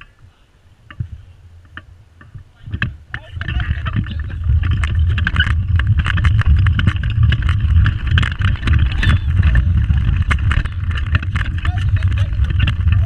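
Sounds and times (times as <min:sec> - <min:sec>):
wheels rumbling: 0:00.8 - 0:13.0.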